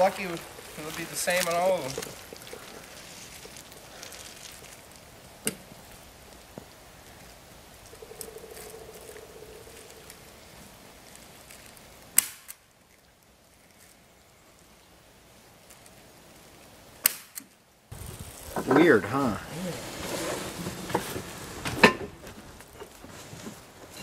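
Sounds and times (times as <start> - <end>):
faint outdoor background: 0.0 - 24.0.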